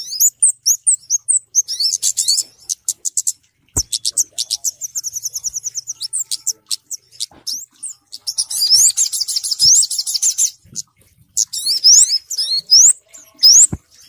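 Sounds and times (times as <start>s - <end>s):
bird trills: 0.0s - 14.0s
high-pitched bird chirps: 0.0s - 14.0s.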